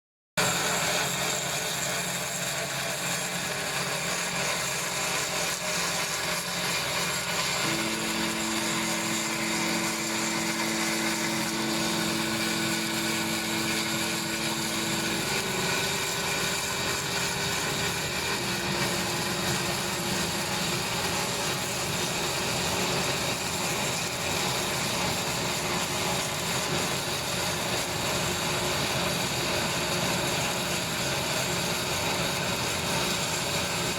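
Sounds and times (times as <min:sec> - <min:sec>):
foam cutter humming and hissing: 0:00.4 - 0:33.9
steady motor tones: 0:00.4 - 0:33.9.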